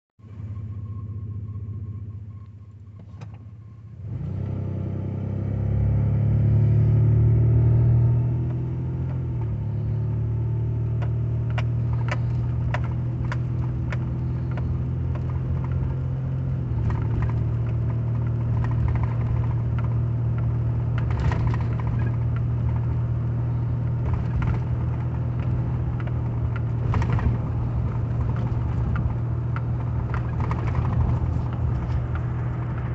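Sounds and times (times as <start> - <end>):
pickup engine accelerating: 0.2 - 32.9.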